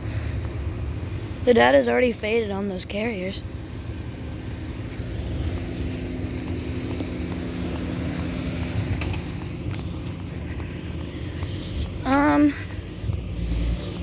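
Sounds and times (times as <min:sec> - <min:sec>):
air conditioning units humming: 0:00.0 - 0:14.0.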